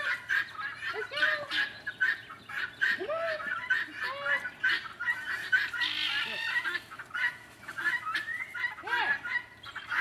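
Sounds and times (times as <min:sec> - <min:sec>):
chickens clucking and squawking: 0:00.0 - 0:10.0.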